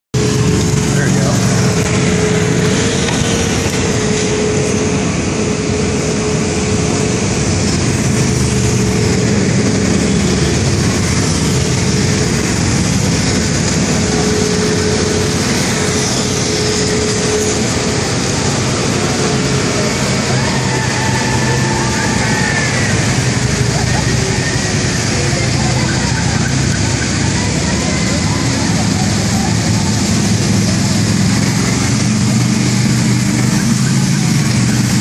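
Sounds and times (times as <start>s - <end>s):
tyres on wet pavement: 0.1s - 35.0s
vehicle engines running: 0.1s - 35.0s.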